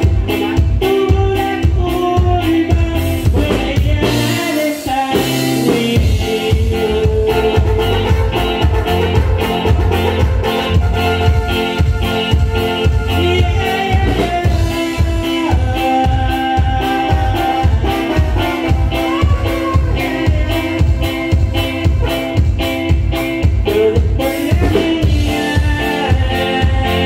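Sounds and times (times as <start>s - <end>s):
band music with bass and drums: 0.0s - 27.0s.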